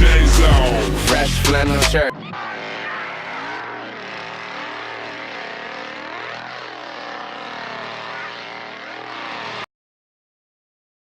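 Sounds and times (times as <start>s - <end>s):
mechanical drone sweeping pitch: 0.0s - 9.7s.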